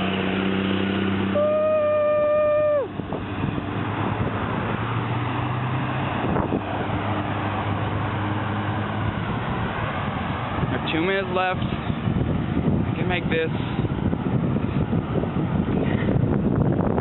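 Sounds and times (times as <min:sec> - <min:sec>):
traffic passing: 0:00.0 - 0:17.0
wind and road noise: 0:00.0 - 0:17.0.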